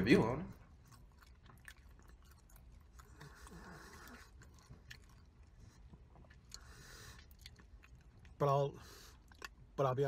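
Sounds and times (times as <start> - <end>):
faint chewing: 0.5 - 10.0.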